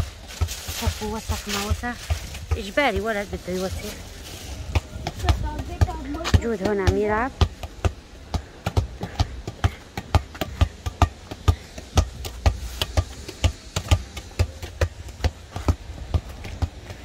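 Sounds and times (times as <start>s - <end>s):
dull thuds: 0.0s - 17.0s.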